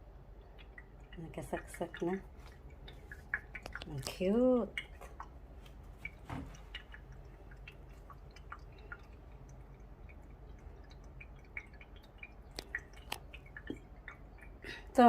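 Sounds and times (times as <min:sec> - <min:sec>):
water dripping and trickling: 0:00.0 - 0:15.0.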